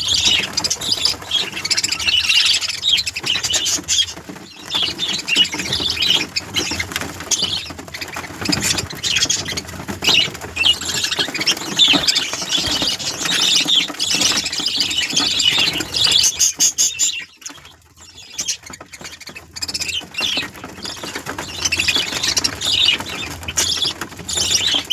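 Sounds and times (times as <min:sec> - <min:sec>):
birds chirping and squawking: 0:00.0 - 0:24.9.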